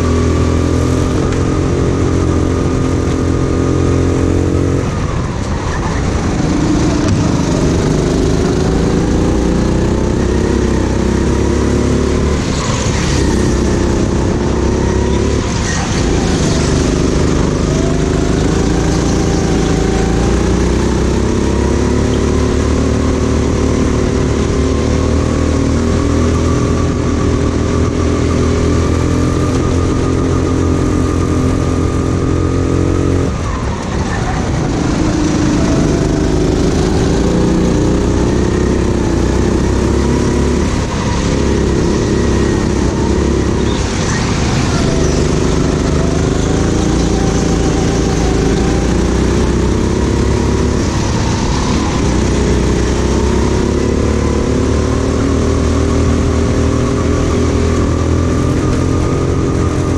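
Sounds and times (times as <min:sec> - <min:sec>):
racing kart engine revving: 0:00.0 - 0:59.9.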